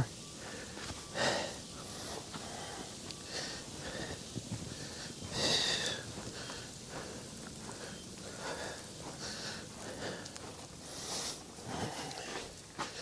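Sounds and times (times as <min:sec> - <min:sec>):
man breathing hard: 0:00.4 - 0:13.0.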